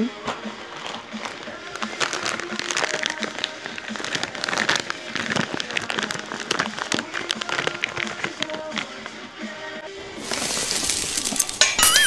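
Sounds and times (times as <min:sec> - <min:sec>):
plastic bag crinkling: 0:00.8 - 0:09.2, 0:10.0 - 0:12.0.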